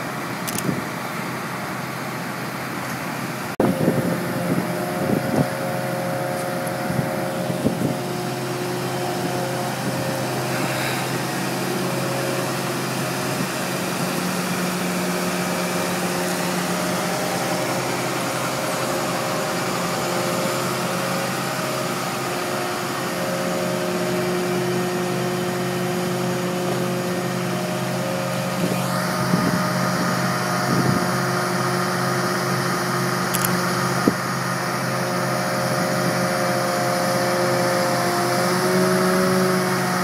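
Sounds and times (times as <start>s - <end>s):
diesel engine running steadily: 0.0s - 40.0s.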